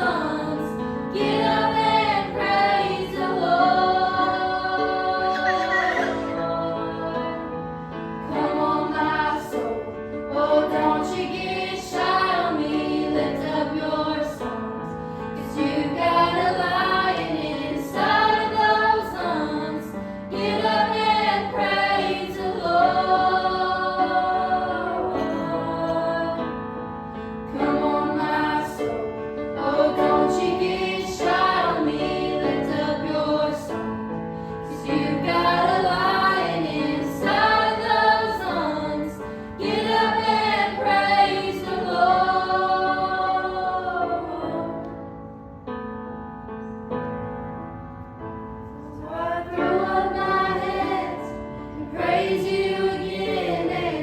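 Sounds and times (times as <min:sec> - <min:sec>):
youth choir singing: 0:00.0 - 0:14.7, 0:15.3 - 0:26.7, 0:27.5 - 0:34.0, 0:34.6 - 0:45.1, 0:49.0 - 0:54.0.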